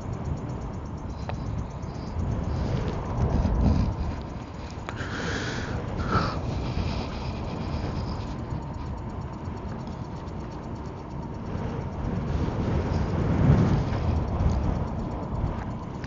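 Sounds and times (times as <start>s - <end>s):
faint steady whine: 0.0s - 16.0s
wind rumbling on microphone: 0.0s - 16.0s.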